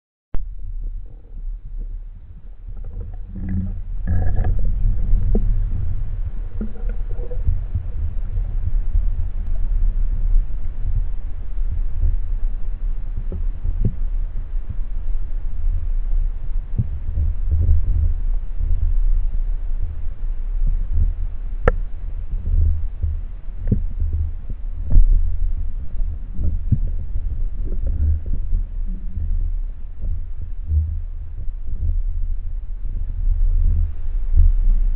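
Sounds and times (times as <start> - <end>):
low underwater rumble: 0.4 - 34.9.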